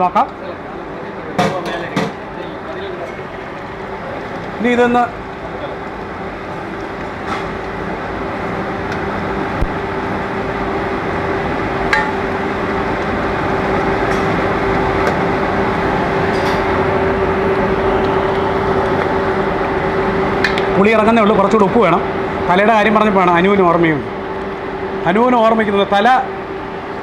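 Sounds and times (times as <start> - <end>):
exhaust fan and burner hum: 0.0 - 27.0.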